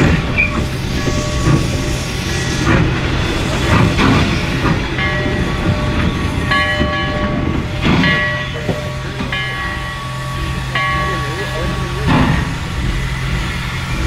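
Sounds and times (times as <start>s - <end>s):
steam hissing: 0.0s - 14.0s
surges of steam noise: 0.0s - 14.0s.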